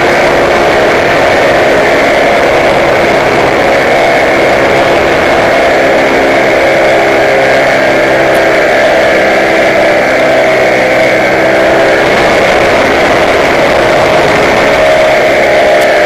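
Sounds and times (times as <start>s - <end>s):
air rushing past: 0.0s - 16.0s
small aircraft engine running: 0.0s - 16.0s.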